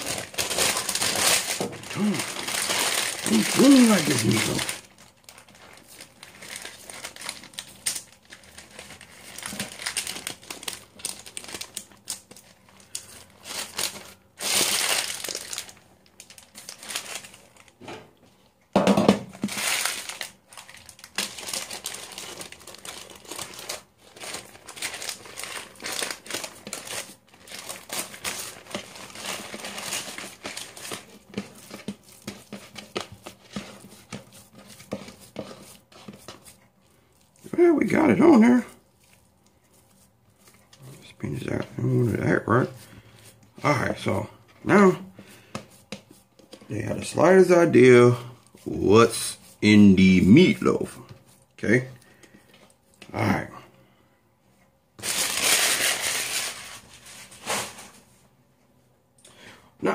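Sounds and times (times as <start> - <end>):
paper crinkling and rustling: 0.0 - 18.5, 19.3 - 53.5, 55.0 - 58.2.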